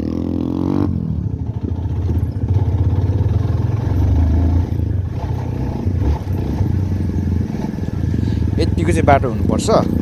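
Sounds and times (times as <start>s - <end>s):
motorcycle engine rumbling: 0.0s - 10.0s
road and wind noise: 0.0s - 10.0s.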